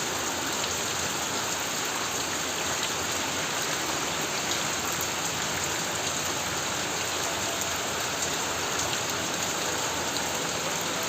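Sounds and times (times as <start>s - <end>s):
heavy rain on a tin roof: 0.0s - 11.0s.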